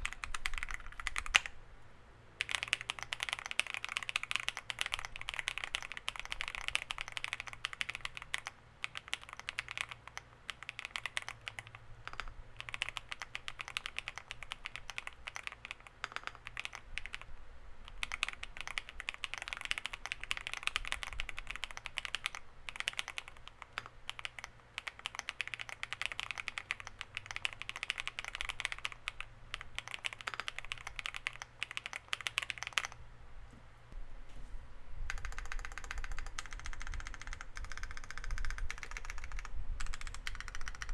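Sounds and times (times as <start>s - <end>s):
fast mechanical keyboard typing: 0.0s - 1.5s, 2.4s - 33.0s, 35.1s - 40.9s.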